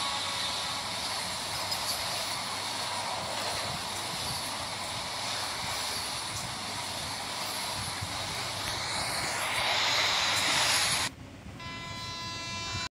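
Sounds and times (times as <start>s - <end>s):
train passing at speed: 0.0s - 12.3s.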